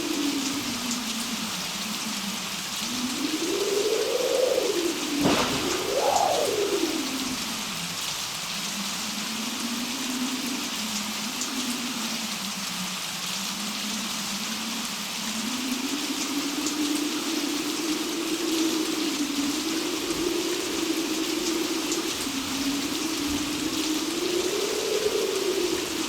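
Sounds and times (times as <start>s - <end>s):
low wind howl: 0.0s - 26.0s
steady rain: 0.0s - 26.0s.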